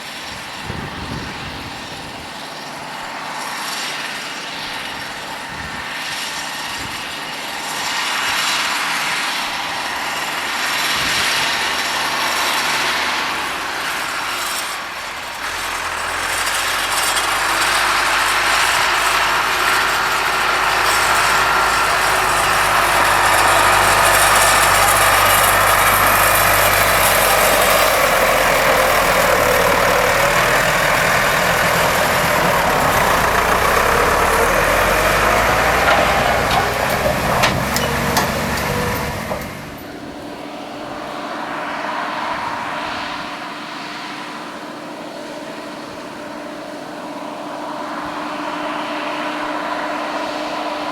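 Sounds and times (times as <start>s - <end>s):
diesel engine working: 0.0s - 50.9s
machinery whine: 0.0s - 50.9s.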